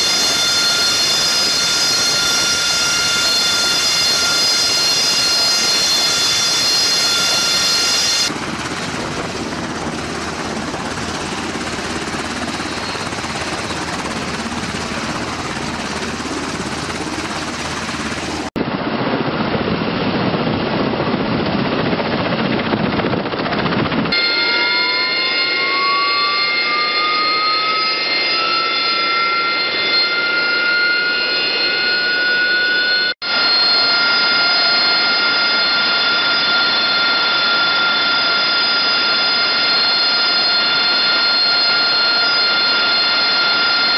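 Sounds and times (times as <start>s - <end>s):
jet turbofan whine rising: 0.0s - 20.0s, 23.8s - 43.9s
jet engine rushing: 0.0s - 43.9s.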